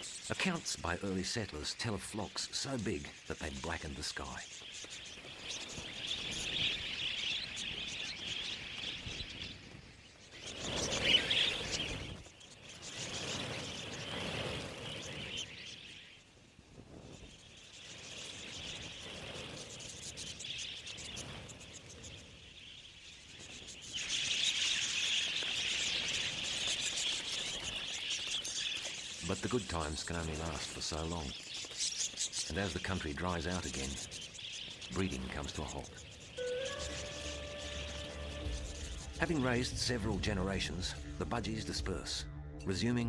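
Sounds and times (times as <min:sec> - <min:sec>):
budgerigars chattering: 0:00.0 - 0:16.0, 0:23.3 - 0:43.0
rush of flock: 0:02.4 - 0:39.6.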